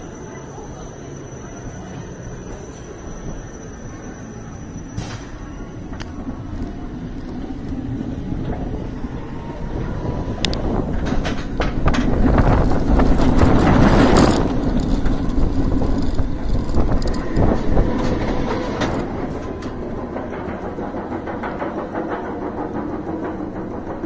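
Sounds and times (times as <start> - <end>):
roller coaster wheels rumbling on track: 0.0 - 24.0.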